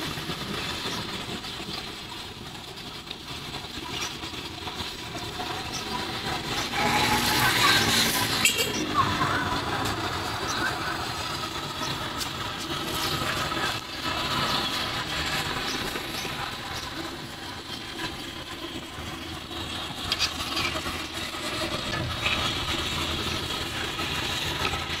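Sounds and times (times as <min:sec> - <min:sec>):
fries frying in hot oil: 0:00.0 - 0:25.0.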